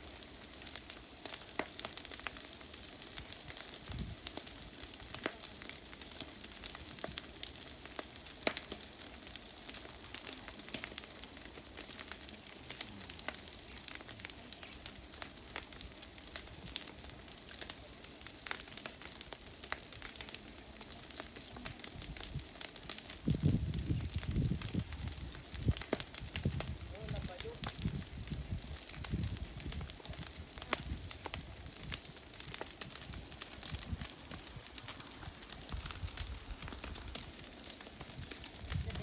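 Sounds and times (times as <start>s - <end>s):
fire crackling and popping: 0.0s - 39.0s
wildfire hissing: 0.0s - 39.0s.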